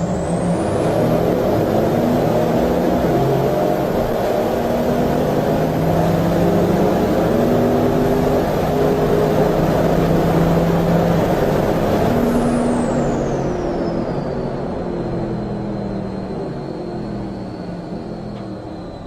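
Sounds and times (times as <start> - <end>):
racing engine running hard: 0.0 - 19.0.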